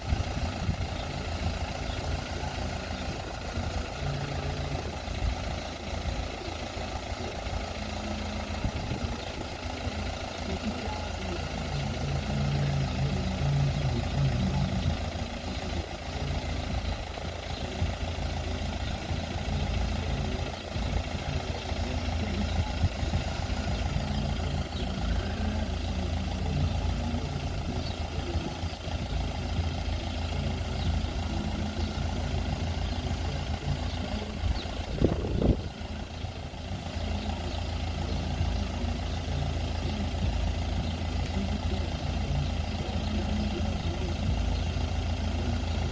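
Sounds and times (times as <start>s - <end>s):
vehicle engines idling: 0.0s - 45.9s.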